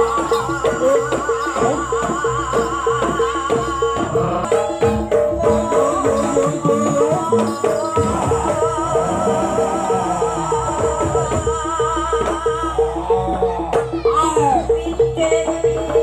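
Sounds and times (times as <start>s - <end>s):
gamelan pitched percussion: 0.0s - 16.0s
hand drums: 0.0s - 16.0s
wavering high melody: 0.0s - 16.0s.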